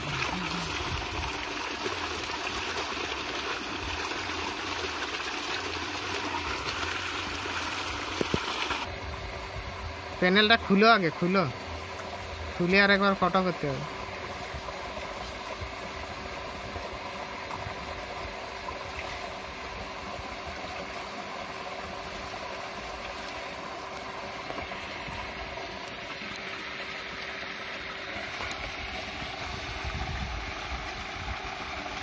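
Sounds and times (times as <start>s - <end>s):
submersible pump humming: 0.0s - 32.0s.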